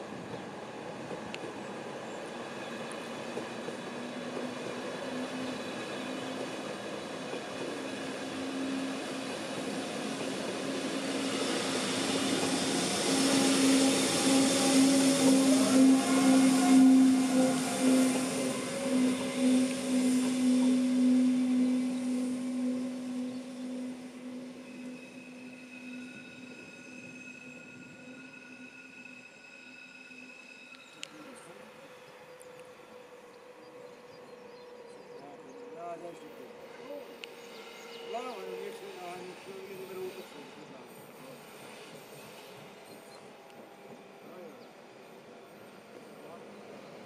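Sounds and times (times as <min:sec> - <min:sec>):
train wheels rumbling on rails: 0:00.0 - 0:29.5, 0:30.6 - 0:47.0
electric locomotive hum: 0:00.0 - 0:47.0.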